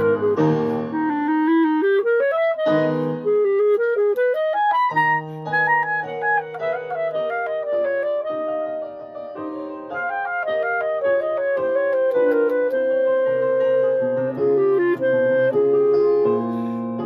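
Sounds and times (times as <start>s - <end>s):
clarinet melody: 0.0s - 17.0s.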